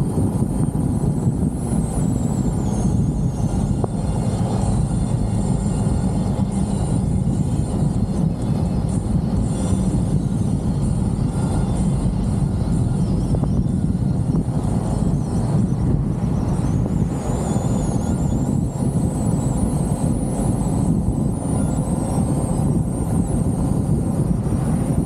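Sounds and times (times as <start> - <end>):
car engine droning: 0.0 - 25.0
wind rushing: 0.0 - 25.0.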